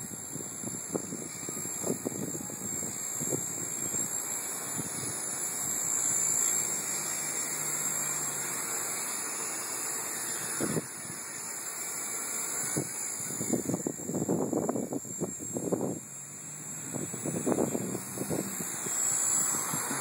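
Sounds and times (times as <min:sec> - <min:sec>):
toy helicopter rotor whining: 0:00.0 - 0:20.0.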